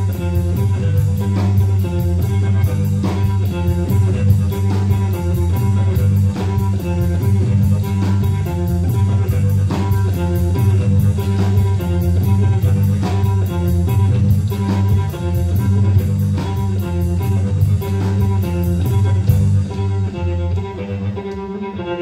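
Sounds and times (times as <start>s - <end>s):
drums with cymbal beat: 0.0s - 21.6s
bass guitar: 0.0s - 22.0s
electric guitar: 0.0s - 22.0s.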